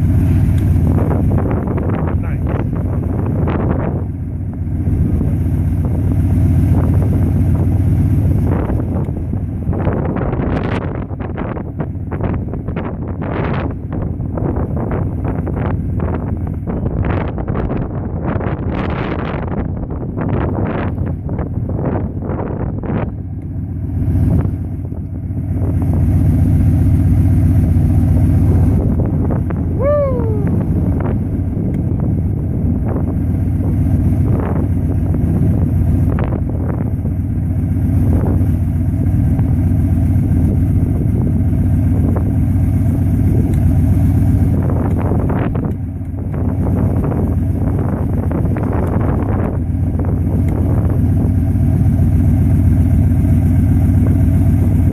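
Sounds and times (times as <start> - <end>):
wind buffeting microphone: 0.0 - 23.4, 24.0 - 54.9
van engine and road rumble: 0.0 - 54.9.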